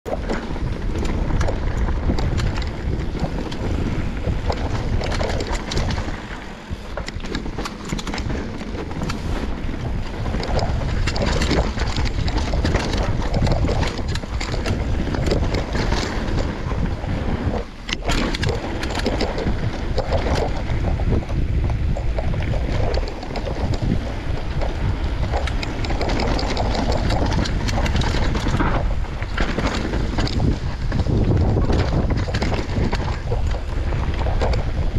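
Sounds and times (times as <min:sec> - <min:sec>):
bike rattling and knocking: 0:00.1 - 0:34.9
tyres rumbling over dirt: 0:00.1 - 0:34.9
wind buffeting microphone: 0:00.1 - 0:34.9.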